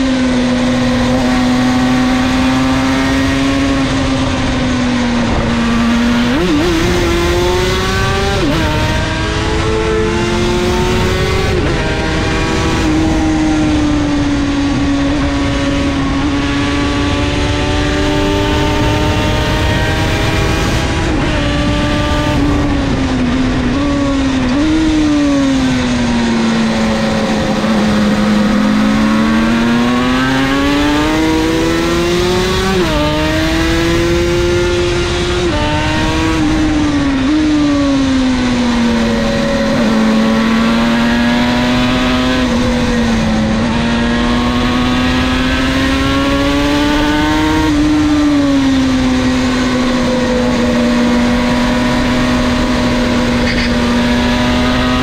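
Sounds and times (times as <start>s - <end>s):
two-stroke motorcycle engine: 0.0s - 55.0s.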